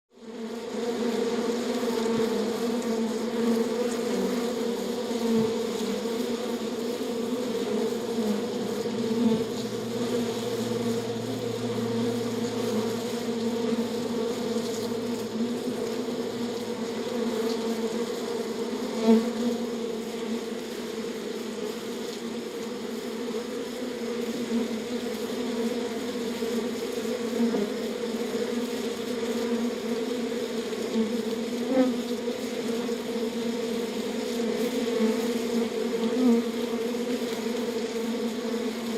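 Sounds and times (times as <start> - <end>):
bees buzzing: 0.2 - 38.9.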